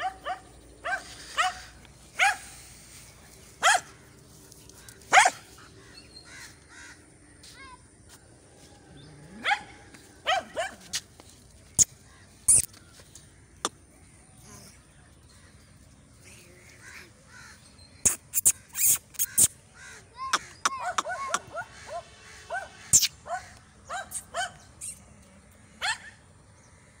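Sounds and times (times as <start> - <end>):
birds calling: 0.0 - 7.9, 9.0 - 27.0.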